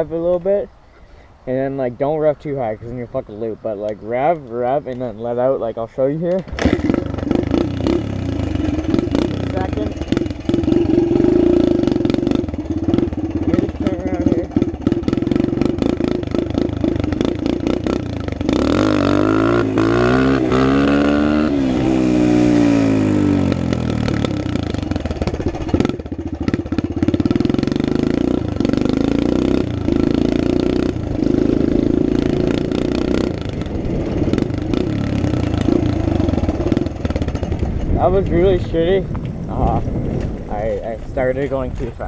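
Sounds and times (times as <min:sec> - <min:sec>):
dirt bike engine revving: 0:04.5 - 0:42.0.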